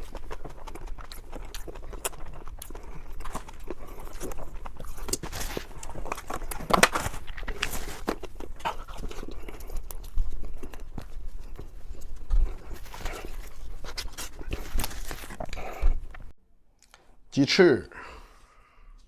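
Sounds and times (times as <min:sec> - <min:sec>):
wet chewing and crunching: 0:00.0 - 0:17.0.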